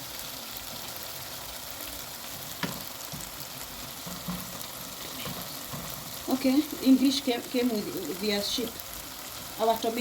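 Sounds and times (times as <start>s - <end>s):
tomatoes sizzling in a frying pan: 0.0s - 10.0s.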